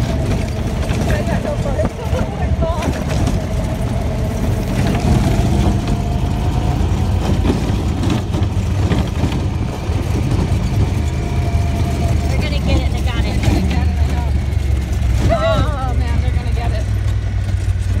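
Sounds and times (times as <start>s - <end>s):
knocks and rattles: 0.0s - 18.0s
vehicle engine and road rumble: 0.0s - 18.0s.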